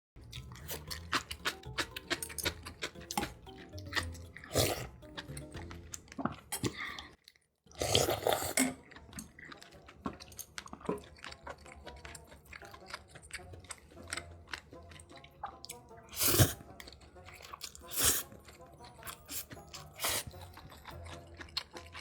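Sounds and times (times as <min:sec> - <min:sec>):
chewing and biting food: 0:00.2 - 0:22.0.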